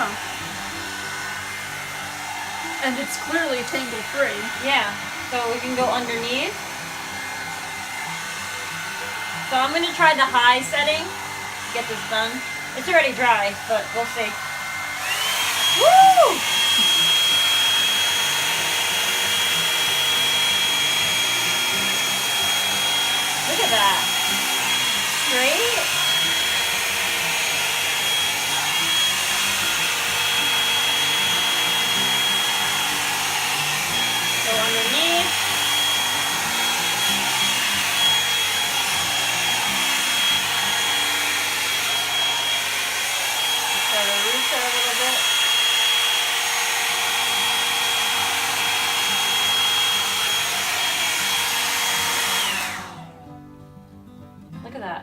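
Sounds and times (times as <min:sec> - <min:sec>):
hair dryer blowing with motor whine: 0:00.0 - 0:53.3.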